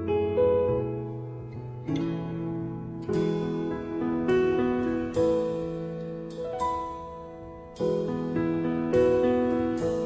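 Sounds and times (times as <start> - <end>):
soft plucked chords: 0.0 - 10.0.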